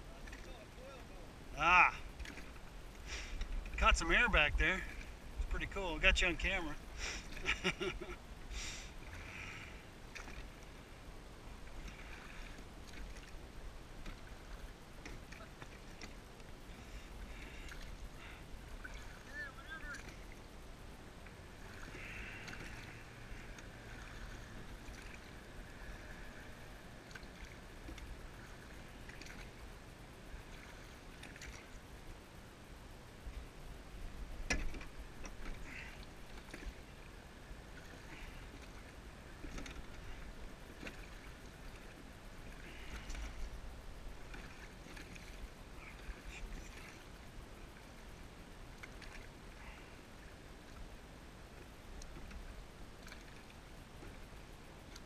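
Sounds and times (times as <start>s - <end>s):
water lapping along a boat hull: 0.0s - 55.0s.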